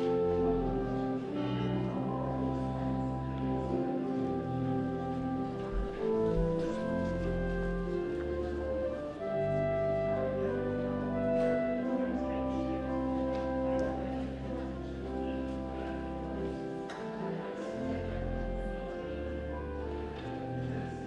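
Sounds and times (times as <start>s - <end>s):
slow instrumental chords: 0.0s - 21.0s.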